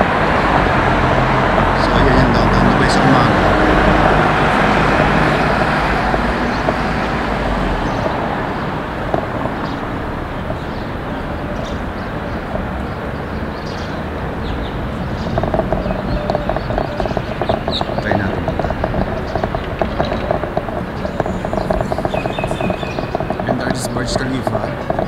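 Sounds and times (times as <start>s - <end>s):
traffic and street noise: 0.0s - 25.0s.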